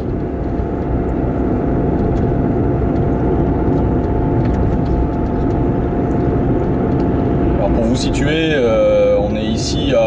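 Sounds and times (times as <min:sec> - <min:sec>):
car engine and tyre rumble: 0:00.0 - 0:10.0
faint constant whine: 0:00.0 - 0:10.0.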